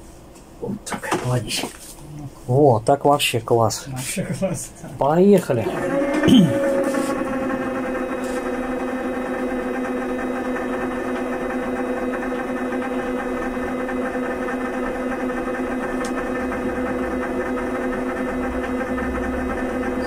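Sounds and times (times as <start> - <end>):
vibration machine motor hum: 3.8 - 20.0.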